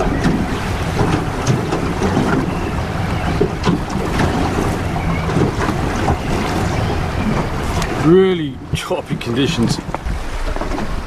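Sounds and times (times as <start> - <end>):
waves slapping boat hull: 0.0 - 11.0
wind buffeting microphone: 0.0 - 11.0.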